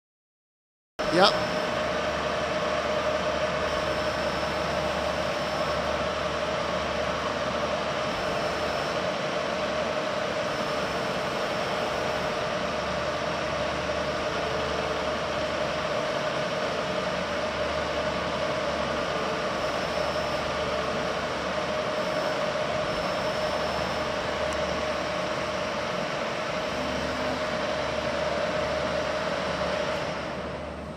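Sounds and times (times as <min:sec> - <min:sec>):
milling machine humming with whine: 0:01.0 - 0:30.9.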